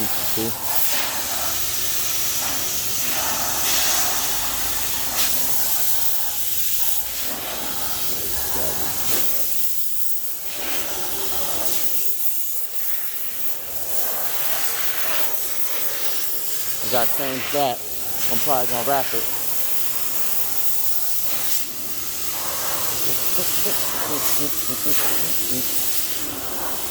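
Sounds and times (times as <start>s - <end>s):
loud hissing noise: 0.0s - 26.9s.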